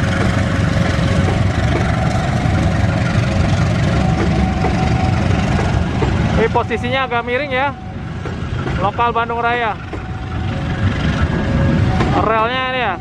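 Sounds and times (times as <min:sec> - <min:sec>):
locomotive diesel engine: 0:00.0 - 0:13.0
train wheels rumbling on track: 0:00.0 - 0:13.0.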